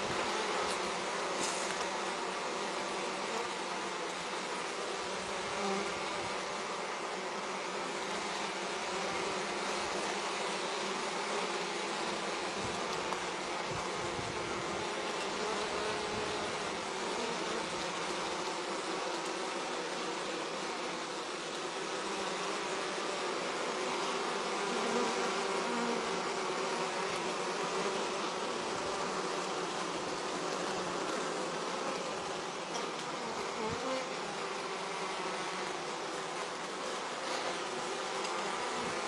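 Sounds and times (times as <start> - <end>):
honeybees buzzing: 0.0 - 39.0.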